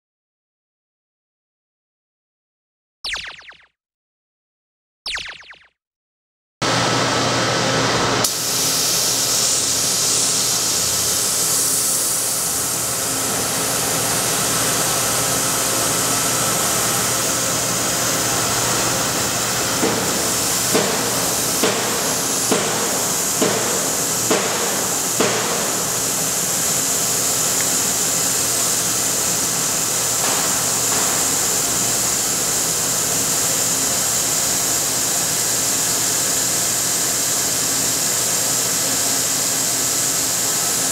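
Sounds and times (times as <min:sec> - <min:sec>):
fan rushing hiss: 0:06.6 - 0:40.9.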